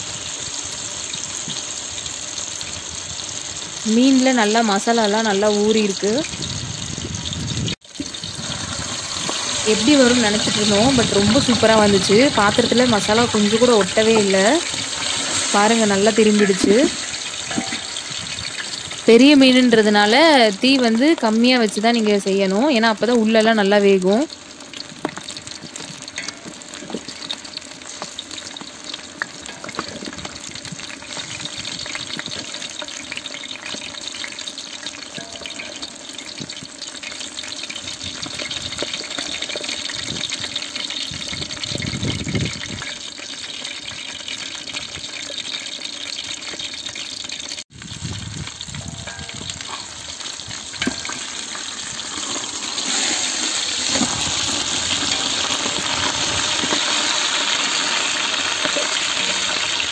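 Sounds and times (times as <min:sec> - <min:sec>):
oil sizzling around frying fish: 0:00.0 - 0:59.9.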